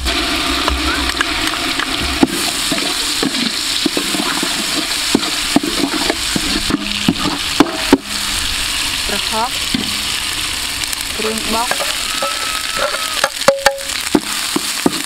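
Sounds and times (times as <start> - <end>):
paste frying in hot oil: 0.0 - 15.0.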